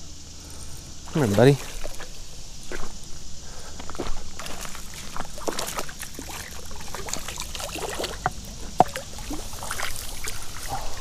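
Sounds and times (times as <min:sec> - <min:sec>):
river water splashing and trickling: 0:00.6 - 0:11.0.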